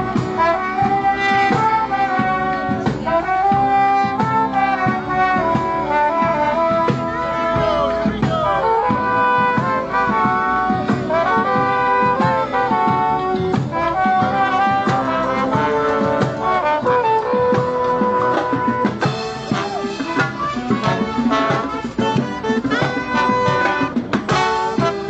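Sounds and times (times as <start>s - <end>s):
brass band playing jazz: 0.0s - 25.0s.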